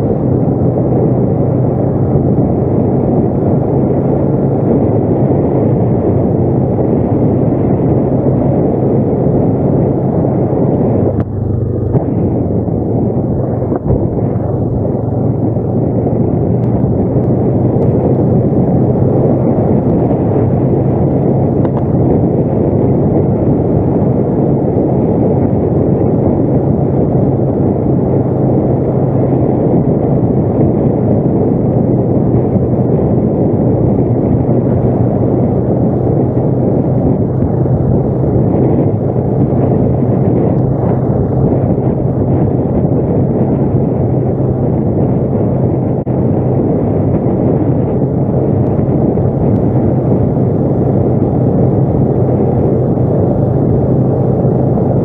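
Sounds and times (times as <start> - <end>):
atv engine rumbling: 0.0 - 55.0.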